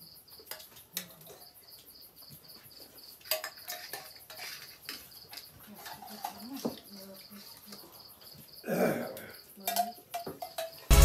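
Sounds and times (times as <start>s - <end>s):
insect chirping: 0.0s - 10.9s.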